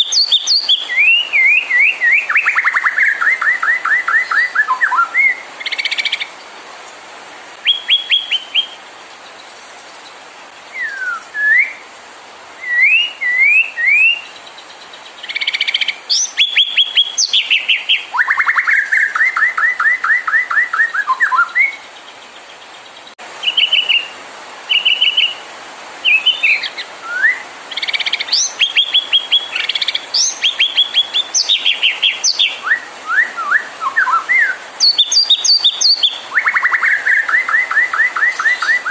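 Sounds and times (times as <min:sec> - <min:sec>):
songbird singing trills and whistles: 0:00.0 - 0:06.4, 0:07.6 - 0:11.8, 0:12.6 - 0:25.4, 0:26.0 - 0:38.9.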